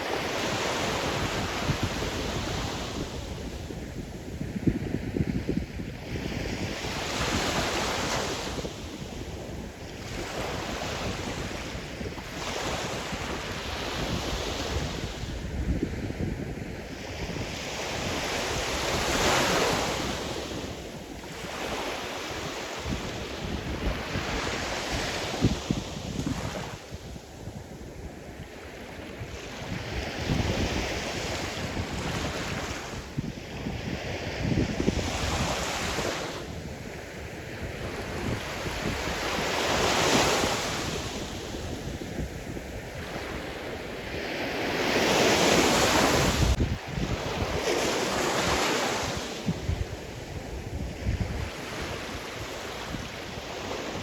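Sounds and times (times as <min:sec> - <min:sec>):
waves breaking on shore: 0:00.0 - 0:54.0
wind buffeting microphone: 0:00.0 - 0:54.0.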